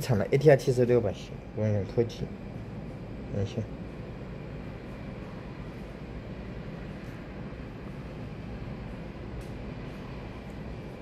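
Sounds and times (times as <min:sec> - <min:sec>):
distant aircraft engines running: 0:00.0 - 0:11.0
low rumble and hiss: 0:00.0 - 0:11.0.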